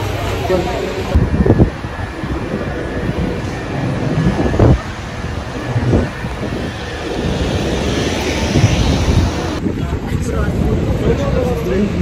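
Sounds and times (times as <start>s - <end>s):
street traffic: 0.0s - 12.0s
wind buffeting microphone: 1.0s - 12.0s.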